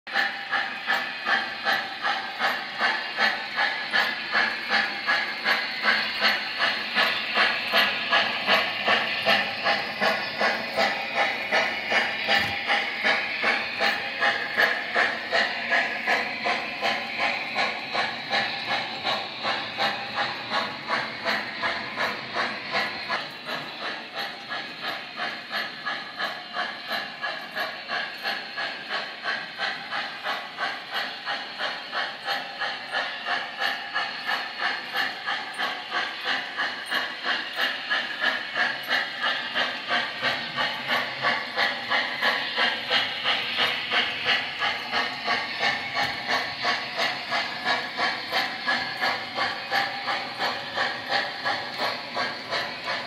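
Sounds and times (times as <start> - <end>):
model steam locomotive chuffing: 0.1 - 53.0.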